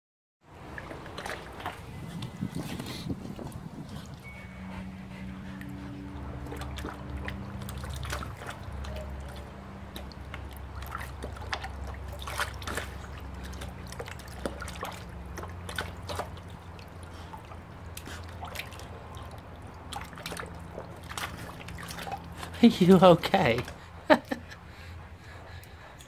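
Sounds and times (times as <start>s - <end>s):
puppy lapping water: 0.5s - 26.0s
water splashing and sloshing: 0.5s - 26.0s.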